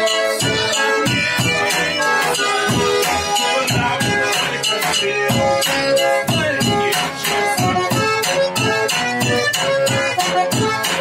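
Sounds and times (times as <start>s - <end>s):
button accordion playing chords: 0.0s - 11.0s
steady drum beat: 0.0s - 11.0s.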